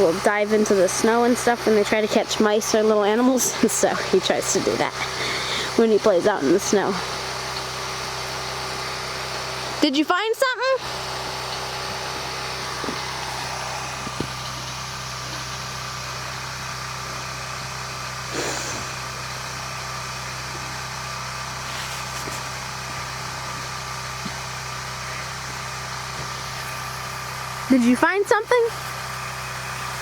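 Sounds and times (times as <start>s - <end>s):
engine-like hum: 0.0s - 30.0s.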